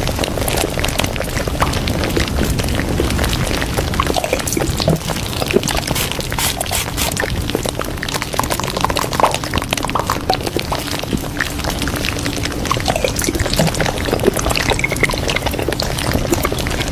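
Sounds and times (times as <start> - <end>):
small plinks and drips: 0.0 - 16.9
water trickling and bubbling: 0.0 - 16.9.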